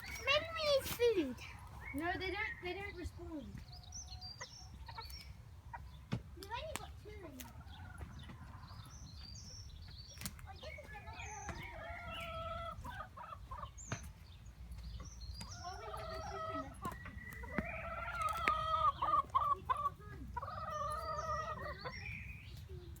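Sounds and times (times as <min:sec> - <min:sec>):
chickens drawn-out calls: 0:00.0 - 0:06.3, 0:07.2 - 0:09.4, 0:10.2 - 0:23.0
chickens clucking: 0:00.0 - 0:23.0.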